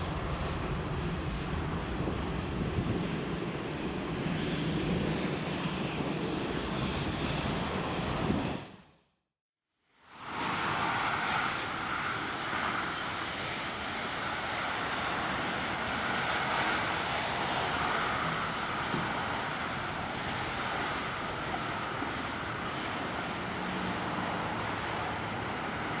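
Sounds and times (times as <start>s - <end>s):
jet engines rushing: 0.0s - 8.4s, 10.2s - 26.0s.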